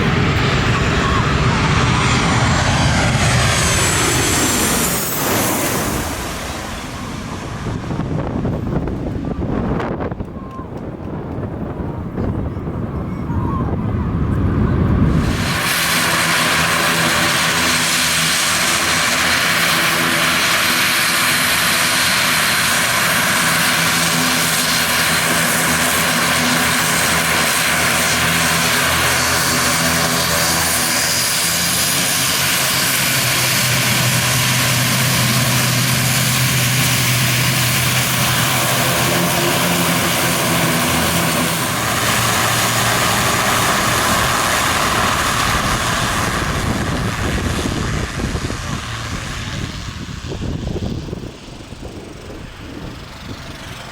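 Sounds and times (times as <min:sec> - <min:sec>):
propeller engine drone: 0:00.0 - 0:53.9.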